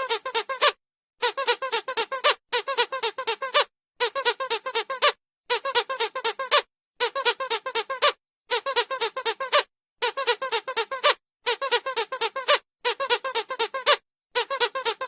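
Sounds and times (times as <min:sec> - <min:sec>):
squeaky dog toy squeaking: 0:00.0 - 0:15.0.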